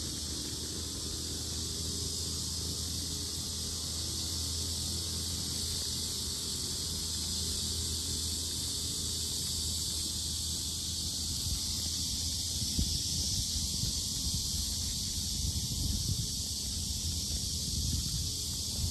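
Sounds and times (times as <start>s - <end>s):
cicadas droning: 0.0s - 18.9s.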